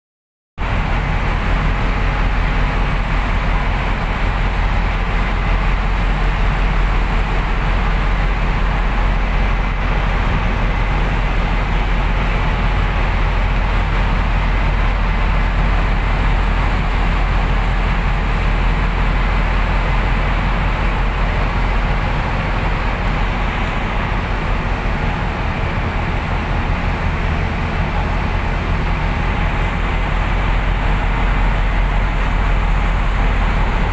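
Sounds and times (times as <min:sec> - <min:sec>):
rush of wind and water: 0:00.6 - 0:33.9
ship engines droning: 0:00.6 - 0:33.9.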